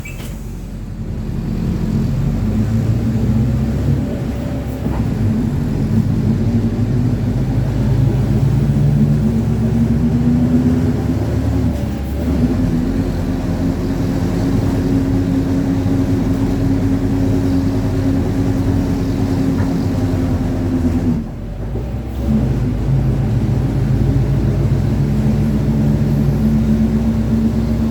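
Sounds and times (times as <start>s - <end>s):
bus differential growl: 0.0s - 27.9s
bus engine: 0.0s - 27.9s
road noise: 0.0s - 27.9s.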